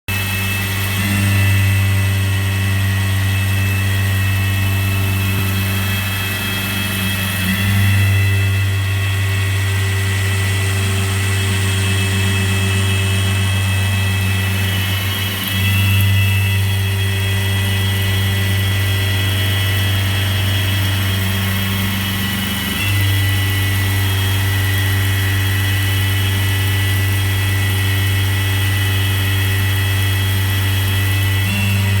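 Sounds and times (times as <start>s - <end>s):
milling machine motor hum: 0.1s - 32.0s
servo and spindle whine: 0.1s - 32.0s.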